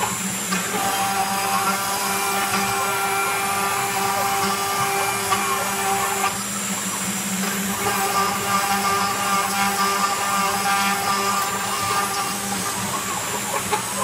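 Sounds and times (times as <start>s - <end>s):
router spindle whine: 0.0s - 14.0s.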